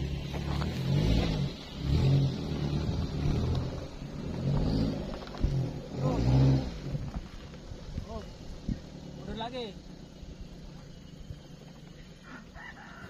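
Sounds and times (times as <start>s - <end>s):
van engine revving: 0.0s - 12.6s.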